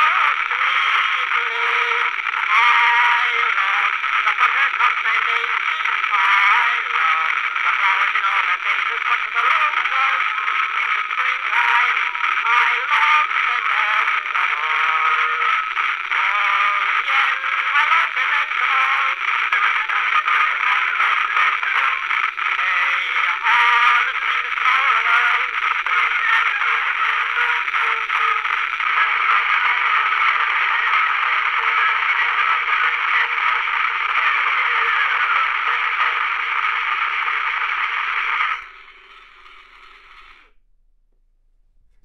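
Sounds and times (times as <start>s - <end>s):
record surface hiss and crackle: 0.0s - 42.0s
tinny phonograph playback: 0.0s - 42.0s.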